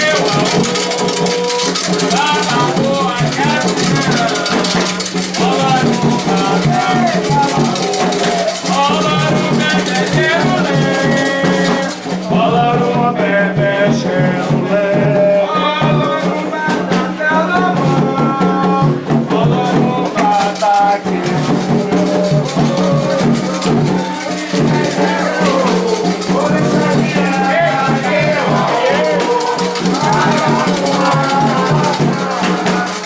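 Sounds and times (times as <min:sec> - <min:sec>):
percussion beat: 0:00.0 - 0:33.0
shaken rattles: 0:00.0 - 0:33.0
voices chanting: 0:00.0 - 0:33.0.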